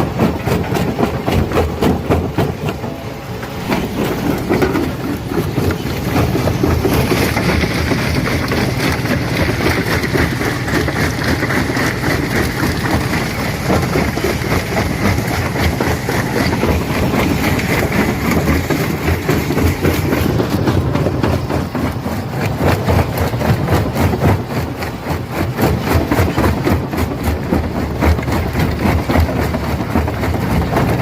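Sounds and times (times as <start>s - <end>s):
low machine rumble: 0.0s - 31.0s
stones clattering in crusher: 0.0s - 31.0s.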